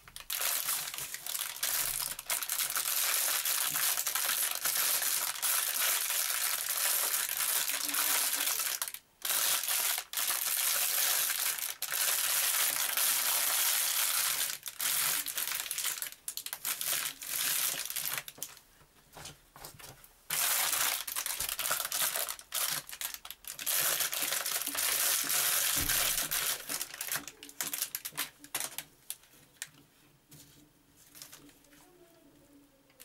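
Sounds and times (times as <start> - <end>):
plastic bag crinkling: 0.0 - 18.6, 20.3 - 29.7.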